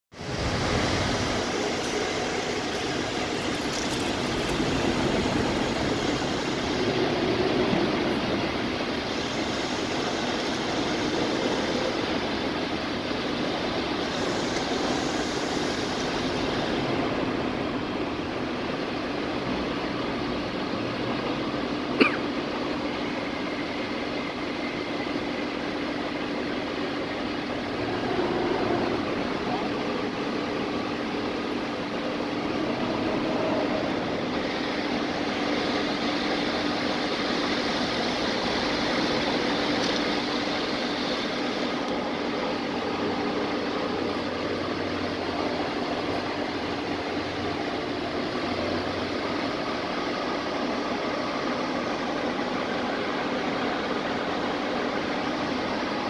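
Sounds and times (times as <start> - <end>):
road traffic rumble: 0.1 - 56.0.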